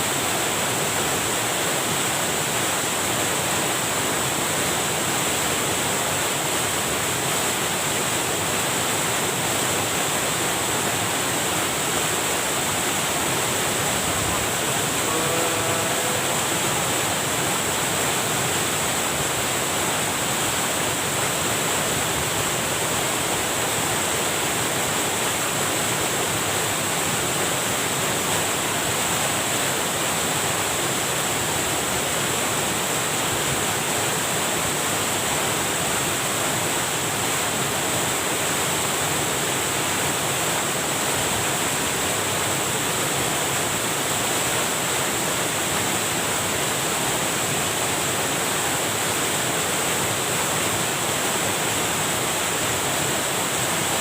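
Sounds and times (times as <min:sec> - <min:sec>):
water rushing over a weir: 0:00.0 - 0:54.0.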